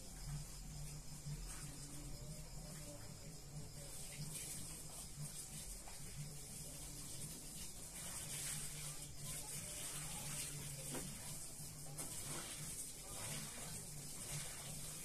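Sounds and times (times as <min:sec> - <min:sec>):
low steady hum: 0:00.0 - 0:15.0
steady high hiss: 0:00.0 - 0:15.0.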